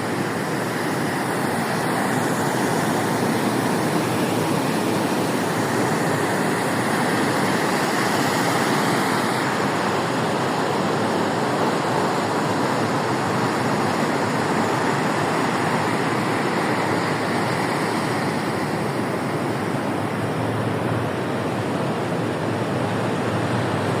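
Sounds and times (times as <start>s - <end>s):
roar of rough surf: 0.0s - 24.0s.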